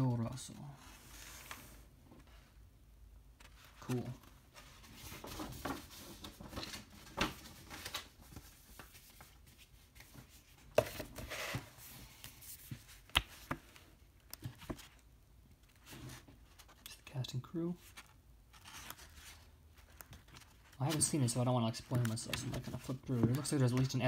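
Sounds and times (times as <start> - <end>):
paper booklet handled: 3.4 - 17.0, 17.8 - 24.0.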